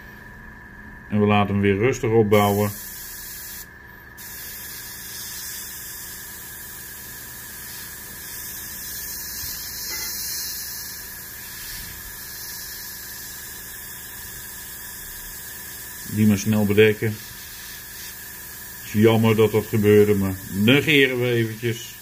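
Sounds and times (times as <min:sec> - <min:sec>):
faint steady whine: 0:00.0 - 0:22.0
airbrush spraying hiss: 0:02.4 - 0:22.0.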